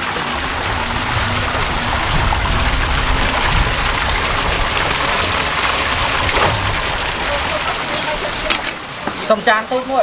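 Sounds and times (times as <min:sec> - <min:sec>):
low rumble: 0:00.0 - 0:08.4
water pouring into plastic tanks: 0:00.0 - 0:09.1.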